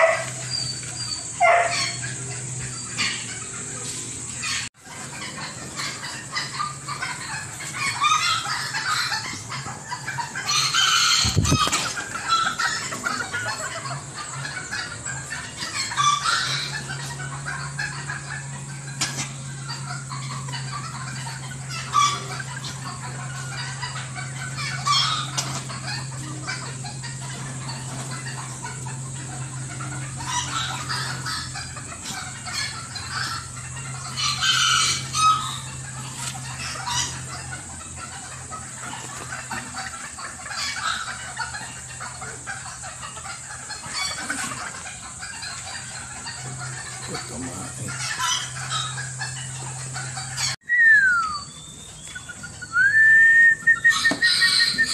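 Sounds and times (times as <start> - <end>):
chickens clucking and calling: 0.0 - 54.9
steady low hum: 0.0 - 54.9.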